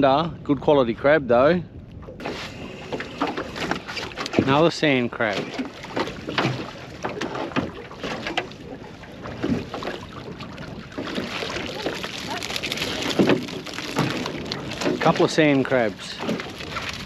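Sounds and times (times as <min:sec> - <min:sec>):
water splashing and draining: 0:02.1 - 0:17.0.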